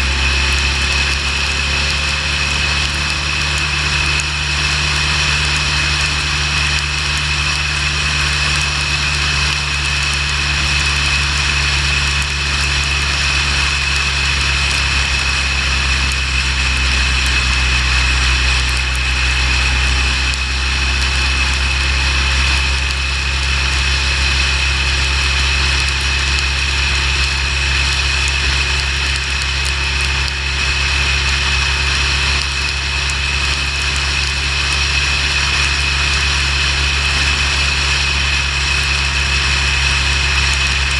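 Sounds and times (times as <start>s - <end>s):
motorcycle engine running: 0.0s - 40.9s
steady high whine: 0.0s - 40.9s
wind and road noise: 0.0s - 40.9s.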